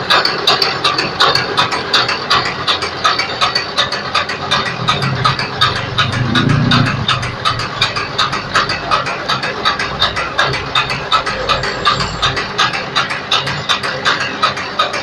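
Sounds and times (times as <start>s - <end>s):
machine clicking rhythmically: 0.0s - 15.0s.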